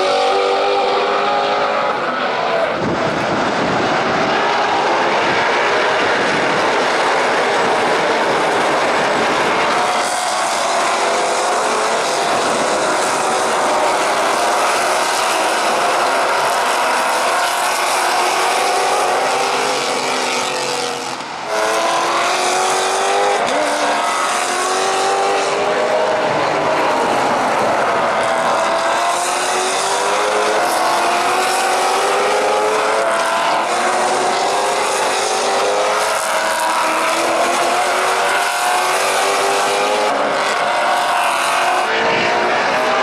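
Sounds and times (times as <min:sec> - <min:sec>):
race car engines running hard: 0:00.0 - 0:43.0.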